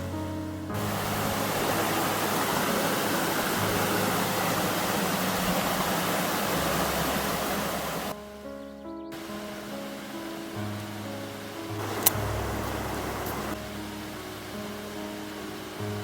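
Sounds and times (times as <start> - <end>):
stream water rushing: 0.7 - 8.2, 9.1 - 16.0.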